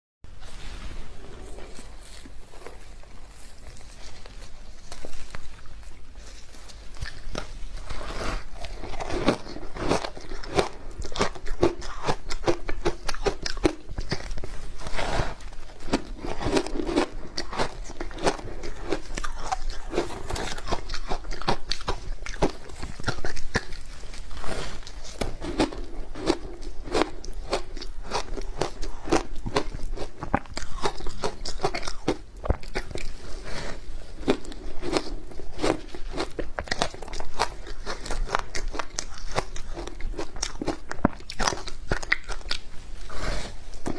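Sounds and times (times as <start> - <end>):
crunching and chewing ice: 1.3 - 43.9.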